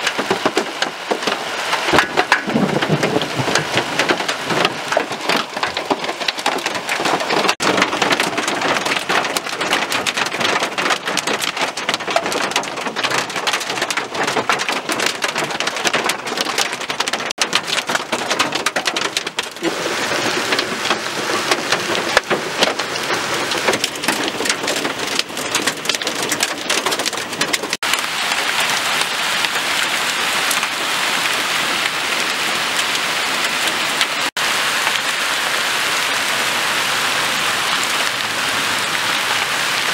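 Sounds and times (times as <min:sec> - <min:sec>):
heavy rain and hail falling: 0:00.0 - 0:39.9.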